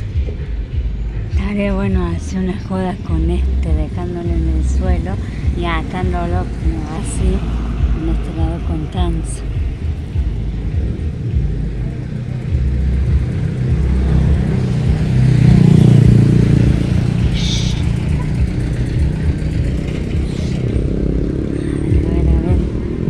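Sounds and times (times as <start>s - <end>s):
steady low traffic rumble: 0.0s - 23.0s
vehicle passing: 0.0s - 23.0s.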